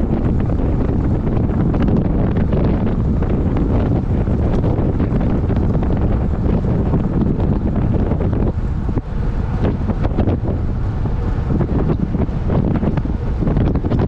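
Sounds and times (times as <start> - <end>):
wind buffeting on microphone: 0.0 - 14.0.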